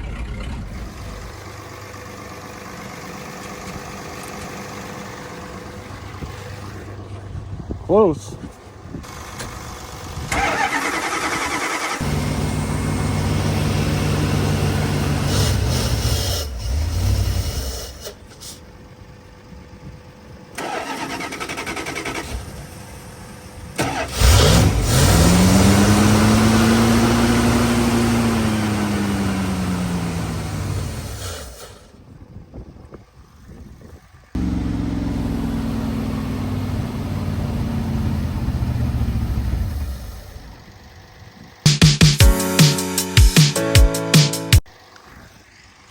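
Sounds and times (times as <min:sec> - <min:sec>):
truck engine cranking and stalling: 0:00.0 - 0:07.8, 0:08.6 - 0:32.3, 0:33.1 - 0:41.7.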